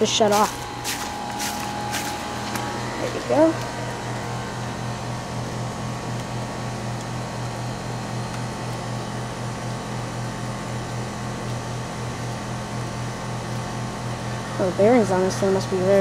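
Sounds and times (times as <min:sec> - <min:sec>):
compressor humming: 0:00.0 - 0:16.0
condenser fan air noise: 0:00.0 - 0:16.0.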